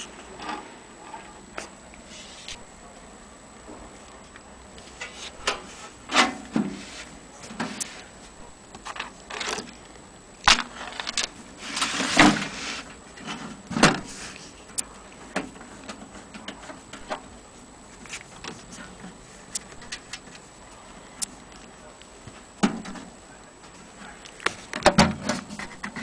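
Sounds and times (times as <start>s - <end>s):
rustle: 0.0s - 26.0s.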